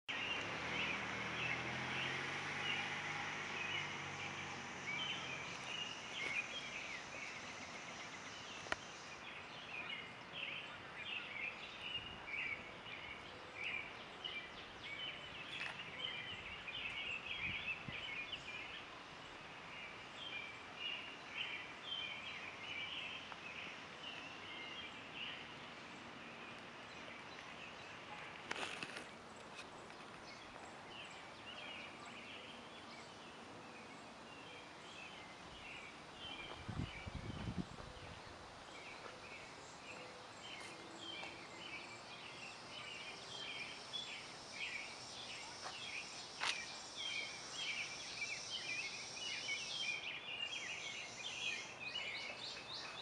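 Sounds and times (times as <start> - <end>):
faint outdoor hum: 0.1 - 53.0
small birds chirping: 0.1 - 53.0.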